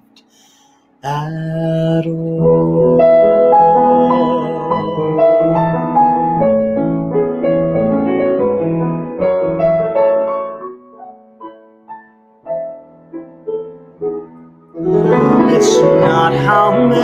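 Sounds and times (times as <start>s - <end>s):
slow piano ballad: 0.0s - 17.0s.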